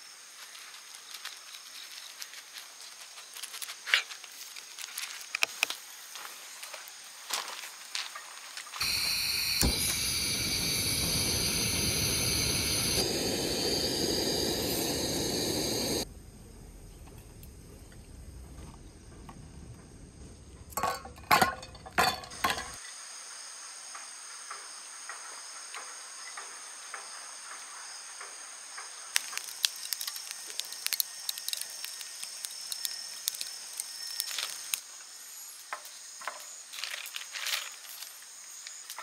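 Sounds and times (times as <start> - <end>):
insects trilling: 0.0 - 16.1, 22.3 - 39.0.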